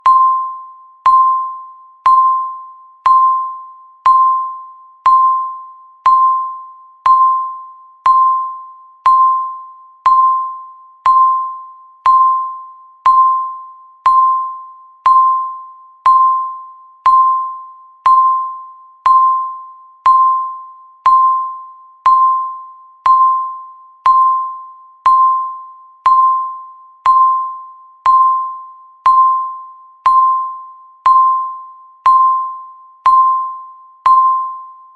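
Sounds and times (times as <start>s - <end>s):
electronic timer ding: 0.0s - 34.9s.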